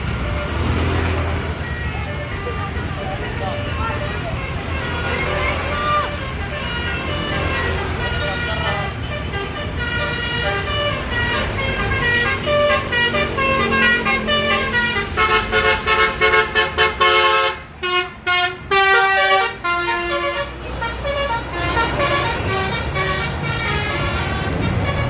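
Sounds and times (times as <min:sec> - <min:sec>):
multi-tone bus horn tune: 0:00.0 - 0:25.0.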